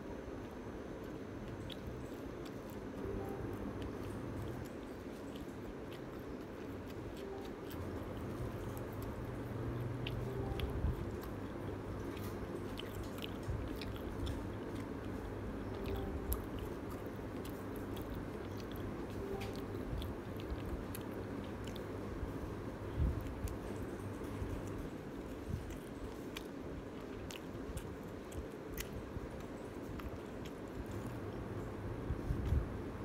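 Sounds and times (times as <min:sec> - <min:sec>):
person chewing food: 0:00.6 - 0:33.0.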